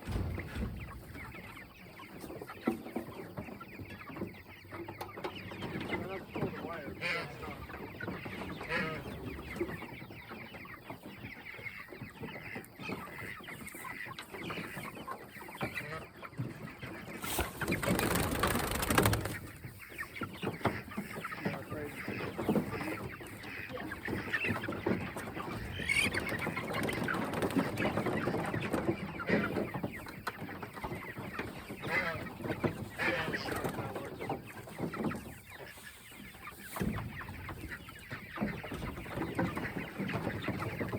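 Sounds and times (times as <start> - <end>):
chickens calling: 0.0 - 40.9.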